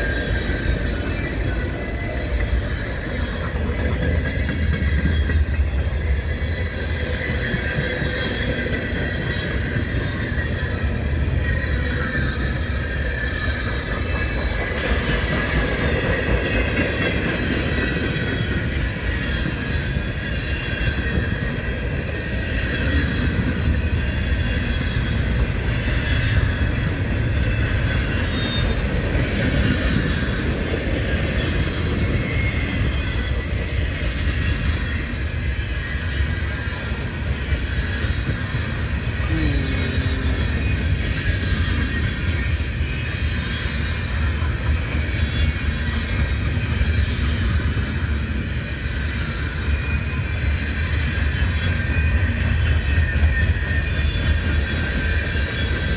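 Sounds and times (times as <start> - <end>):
train wheel squeal: 0.0 - 55.9
train wheels rumbling on rail: 0.0 - 55.9.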